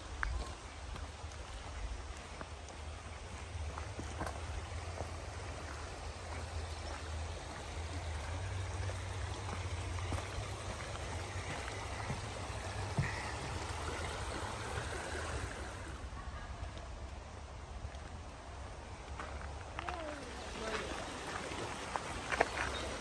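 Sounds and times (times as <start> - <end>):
creek running over stones: 0.0 - 23.0.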